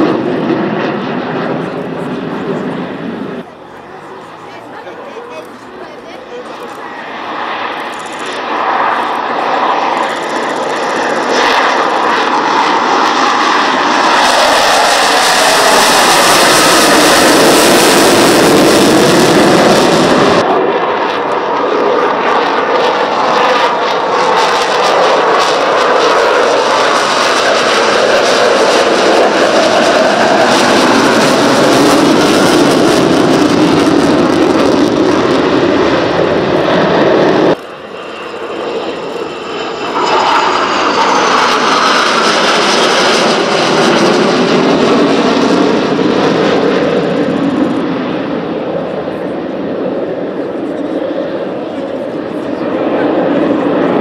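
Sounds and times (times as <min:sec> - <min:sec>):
jet fighter roar: 0:00.0 - 0:54.0.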